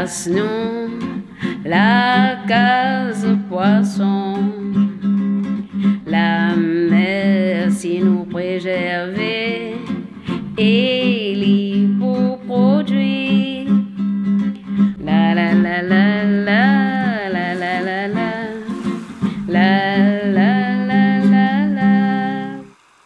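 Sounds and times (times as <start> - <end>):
person singing: 0.0 - 5.0, 6.0 - 10.0, 10.6 - 13.8, 14.9 - 22.8
acoustic guitar: 0.0 - 23.0.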